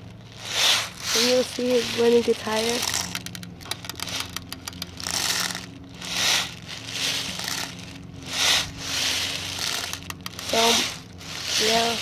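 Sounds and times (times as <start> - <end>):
steady low hum: 0.0 - 12.0
bbs rattling through loader: 0.3 - 12.0.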